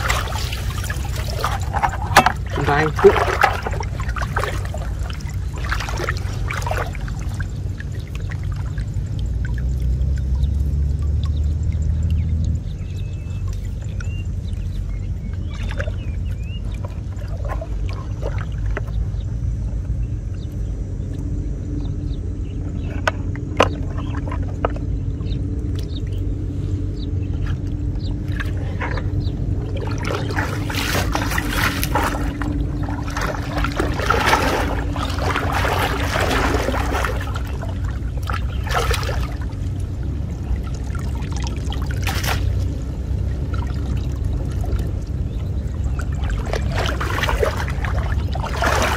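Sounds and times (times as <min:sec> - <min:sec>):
water splashing from wading: 0:00.0 - 0:19.2, 0:22.9 - 0:26.4, 0:27.1 - 0:48.9.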